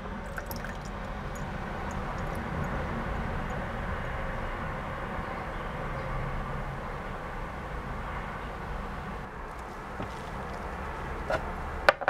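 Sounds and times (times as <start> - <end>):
low rumble and hiss: 0.0 - 11.8.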